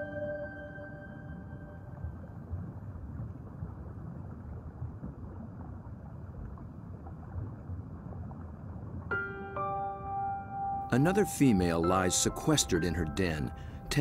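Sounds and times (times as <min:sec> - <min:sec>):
underwater rushing and rumbling: 0:00.0 - 0:14.0.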